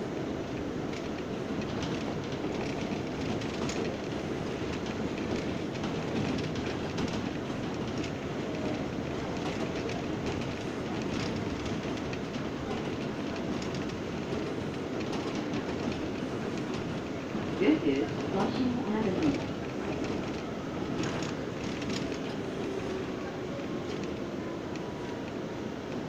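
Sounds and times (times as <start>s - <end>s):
subway wheels rumbling on rail: 0.0s - 26.0s.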